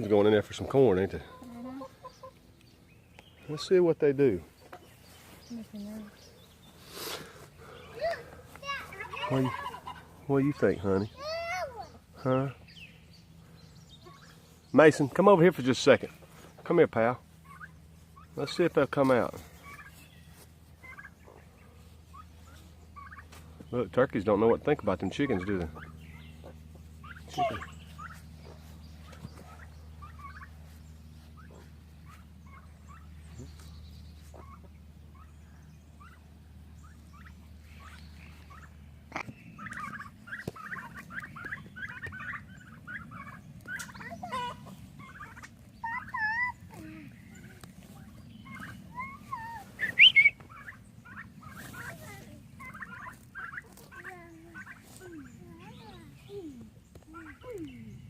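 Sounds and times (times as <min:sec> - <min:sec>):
turkeys gobbling: 0:00.0 - 0:05.4, 0:06.1 - 0:58.0
low steady hum: 0:00.0 - 0:58.0.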